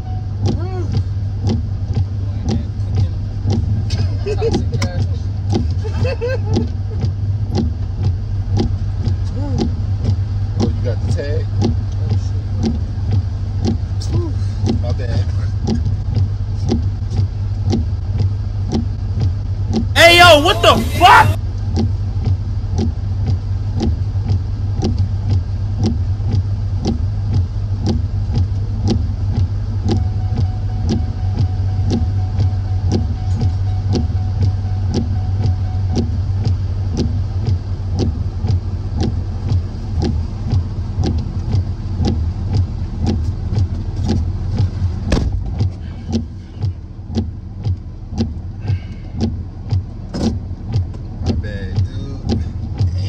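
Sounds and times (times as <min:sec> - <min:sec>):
engine and road drone: 0:00.0 - 0:53.0
regular ticking: 0:00.0 - 0:53.0.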